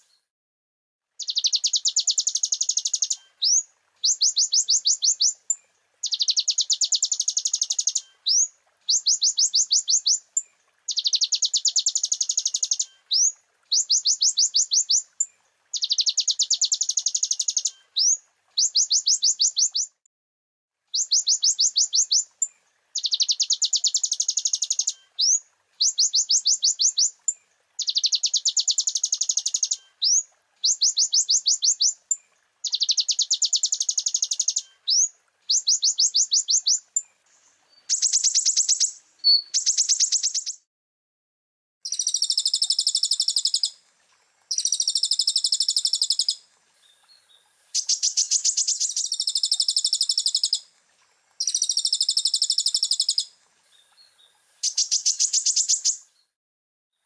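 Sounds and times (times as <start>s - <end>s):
sunbird song: 1.2s - 20.0s, 20.9s - 40.7s, 41.8s - 43.8s, 44.5s - 50.7s, 51.4s - 56.4s.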